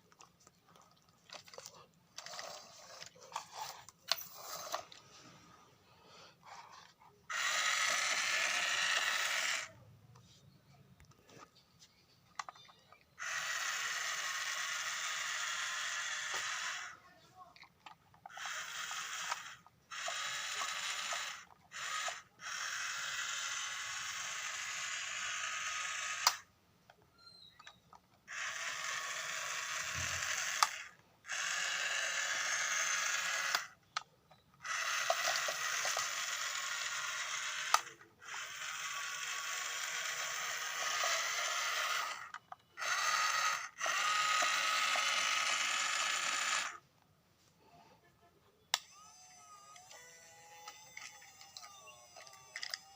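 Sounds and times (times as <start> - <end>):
toy gear motors whirring: 0.0 - 5.6, 6.4 - 9.8, 12.3 - 26.5, 27.2 - 46.8, 48.7 - 52.9.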